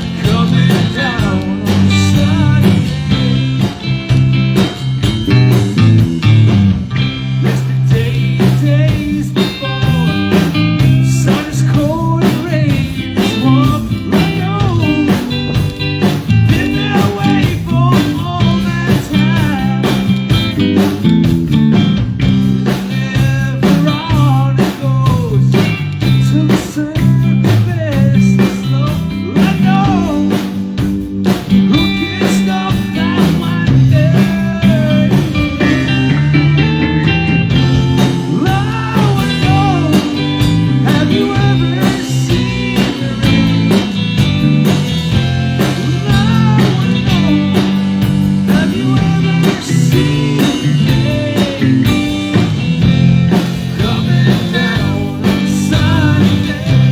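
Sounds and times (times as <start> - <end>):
live blues-rock band: 0.0 - 56.9.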